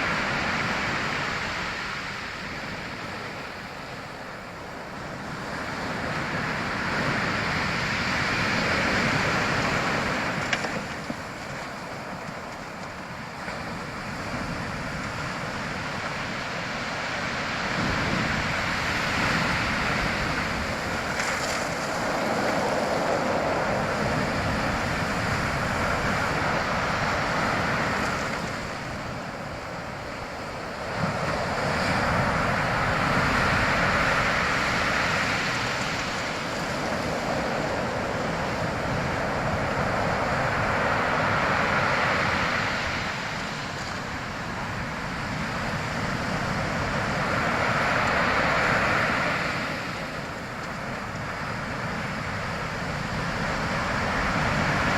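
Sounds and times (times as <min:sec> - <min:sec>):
waves washing in: 0:00.0 - 0:54.9.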